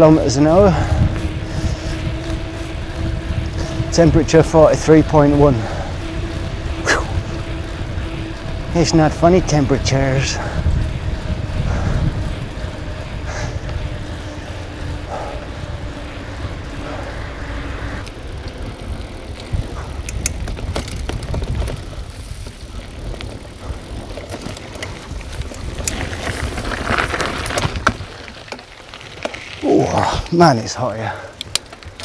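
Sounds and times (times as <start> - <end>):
wind buffeting microphone: 0.0 - 28.6
bicycle tyre noise: 0.0 - 32.0
bike clicks and rattles: 0.0 - 32.0.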